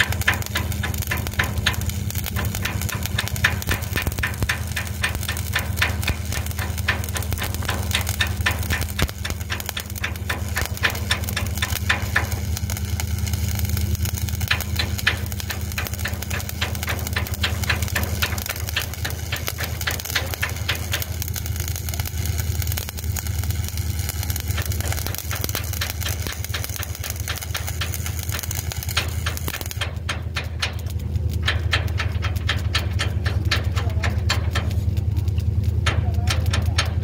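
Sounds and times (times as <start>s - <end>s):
low machine hum: 0.0s - 37.0s
welding arc crackling: 0.0s - 37.0s.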